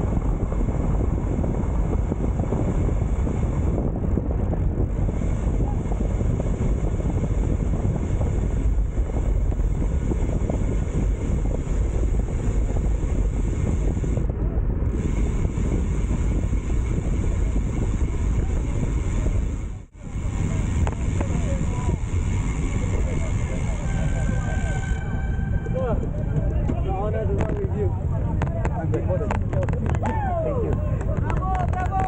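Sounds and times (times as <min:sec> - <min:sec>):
wind rumbling over microphone: 0:00.0 - 0:32.0.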